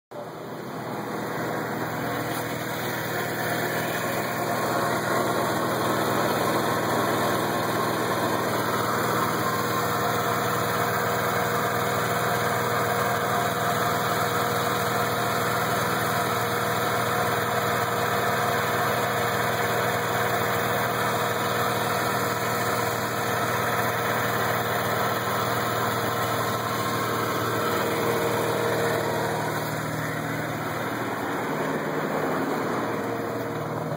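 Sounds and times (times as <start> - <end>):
rotary engine idling: 0.2 - 33.9.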